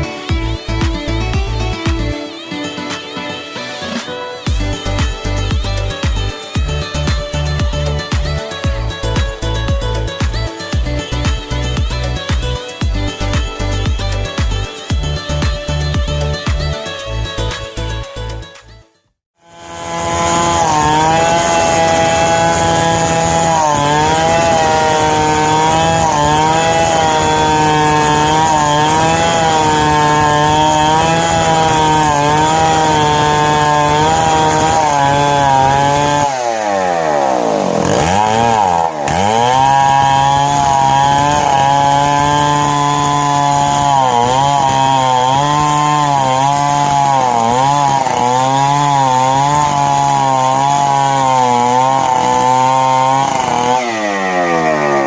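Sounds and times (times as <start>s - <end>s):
chainsaw cutting log: 0.0s - 18.7s, 19.3s - 55.0s.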